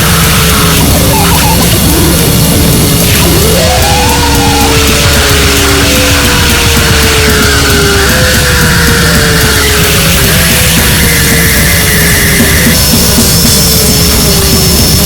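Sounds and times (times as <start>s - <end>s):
falling midrange tones: 0.0s - 15.0s
harsh distorted noise music: 0.0s - 15.0s
pulsing low end: 0.0s - 15.0s.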